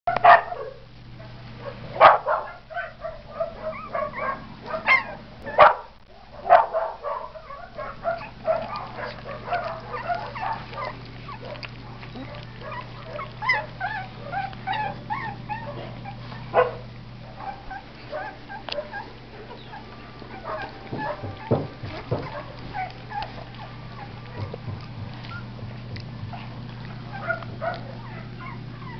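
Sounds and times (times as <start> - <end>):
steady low hum: 0.1 - 28.9
puppies squeaking and yipping: 2.3 - 5.8, 7.3 - 28.9.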